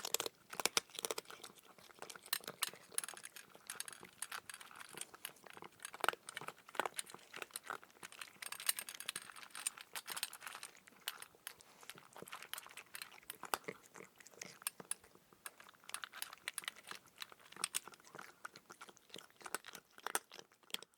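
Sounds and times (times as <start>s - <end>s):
cat crunching dry kibble: 0.0s - 20.9s.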